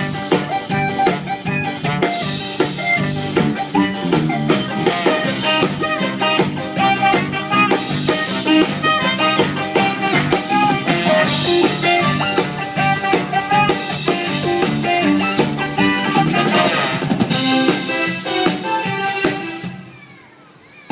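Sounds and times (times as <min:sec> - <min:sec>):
drums hitting: 0:00.0 - 0:19.8
live band playing: 0:00.0 - 0:20.9.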